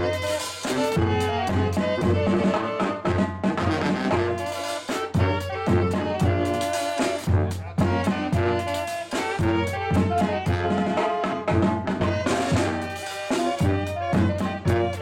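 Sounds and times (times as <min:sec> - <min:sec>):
saxophones and brass melody: 0:00.0 - 0:15.0
steady percussive beat: 0:00.0 - 0:15.0.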